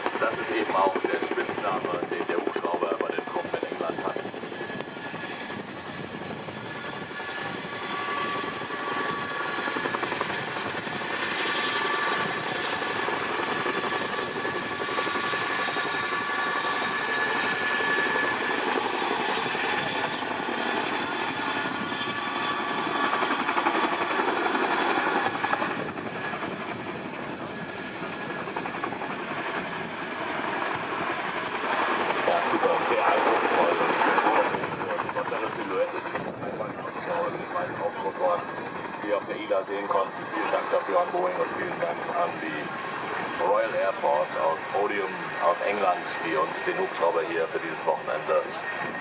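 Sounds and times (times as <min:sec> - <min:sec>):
helicopter rotor beat: 0:00.0 - 0:49.0
turbine engine whine: 0:00.0 - 0:49.0.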